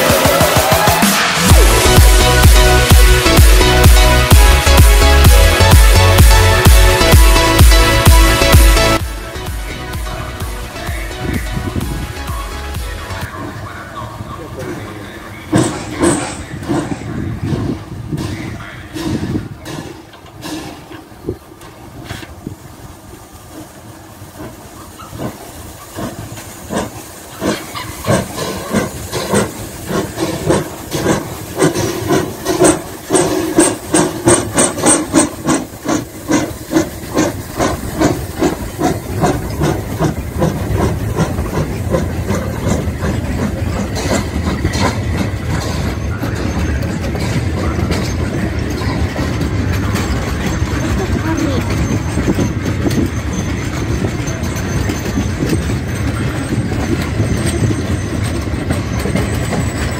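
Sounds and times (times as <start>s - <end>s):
steam hissing: 0.0s - 59.9s
steam locomotive exhaust chuffs: 0.0s - 59.9s
train carriages rumbling: 0.0s - 59.9s.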